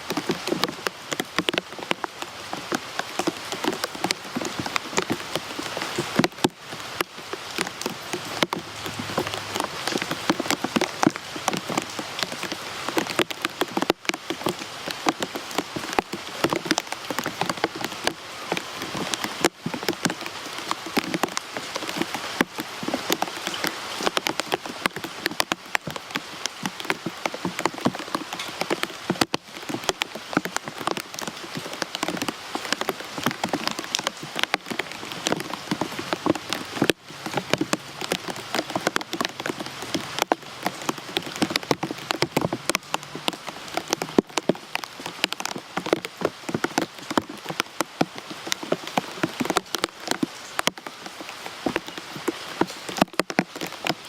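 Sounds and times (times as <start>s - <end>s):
rain hissing: 0.0s - 54.0s
raindrops striking a surface: 0.0s - 54.0s.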